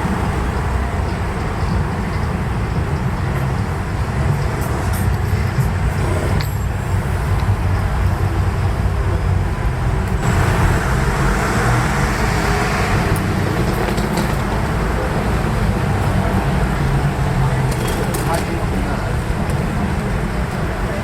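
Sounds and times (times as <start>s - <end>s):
loud rushing noise: 0.0s - 21.0s
traffic engine rumble: 0.0s - 21.0s.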